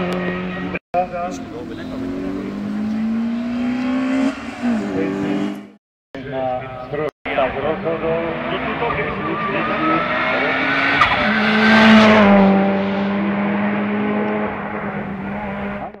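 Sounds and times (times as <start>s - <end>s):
race car engine accelerating: 0.0s - 5.8s, 7.3s - 16.0s.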